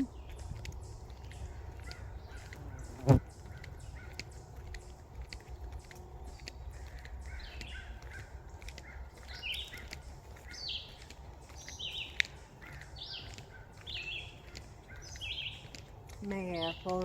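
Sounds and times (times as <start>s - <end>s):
songbirds singing: 0.0s - 17.0s
steady low rumble: 0.0s - 17.0s.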